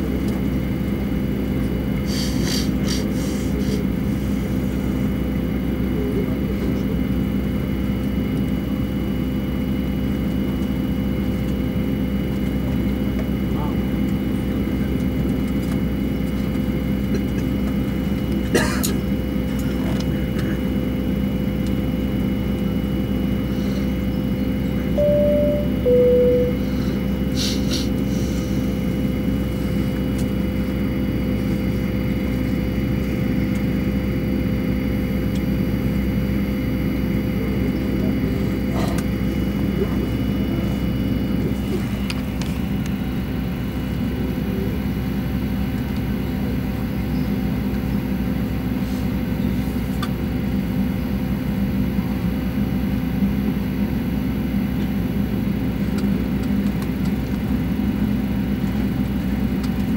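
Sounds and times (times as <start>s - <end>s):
airliner cabin drone and hum: 0.0s - 59.9s.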